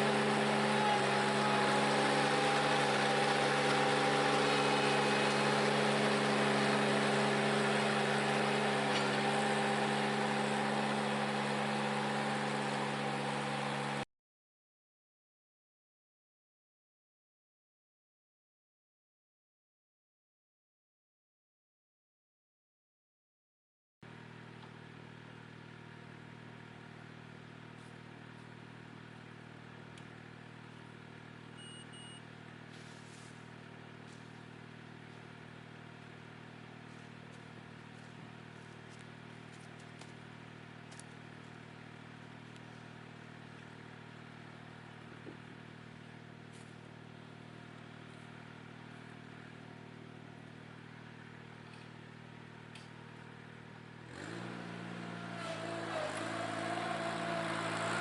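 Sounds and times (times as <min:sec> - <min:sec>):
diesel engine running: 0:00.0 - 0:14.1, 0:24.1 - 0:58.0.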